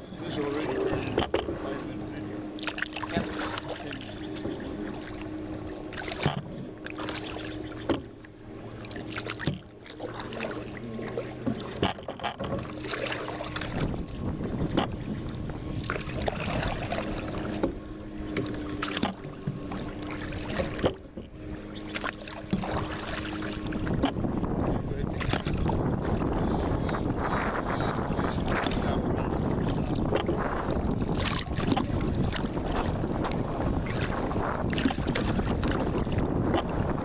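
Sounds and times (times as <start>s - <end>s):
knocks and splashes against kayak: 0.0s - 37.0s.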